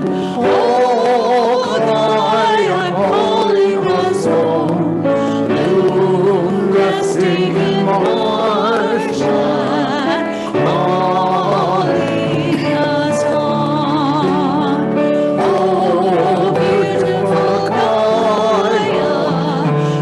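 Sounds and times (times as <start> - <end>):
voices singing a hymn: 0.0 - 20.0.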